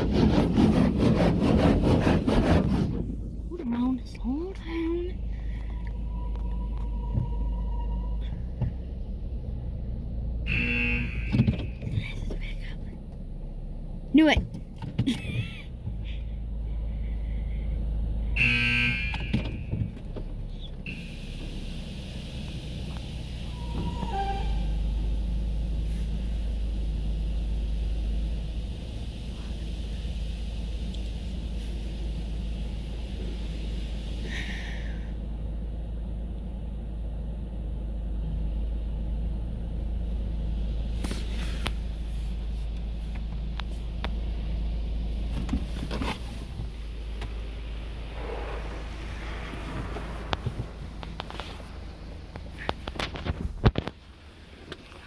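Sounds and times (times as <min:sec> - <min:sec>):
steady low rumble: 0:00.0 - 0:18.4, 0:24.6 - 0:55.0.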